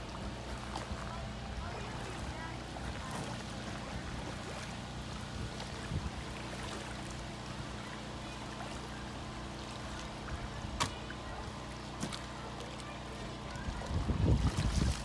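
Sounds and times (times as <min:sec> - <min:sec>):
paddle dipping in water: 0:00.0 - 0:15.0
steady low hum: 0:00.0 - 0:15.0
water lapping and splashing: 0:00.0 - 0:15.0.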